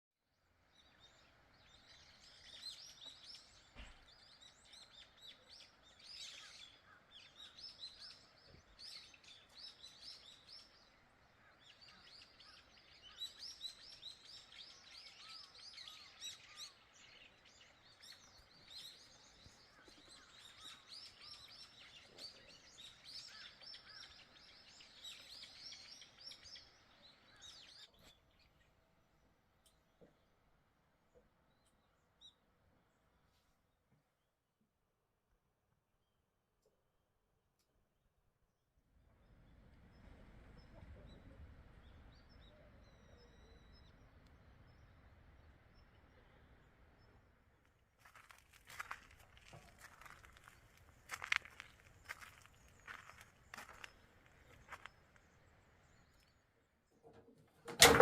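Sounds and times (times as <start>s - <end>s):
small birds chirping: 0.5s - 33.3s, 39.2s - 57.2s.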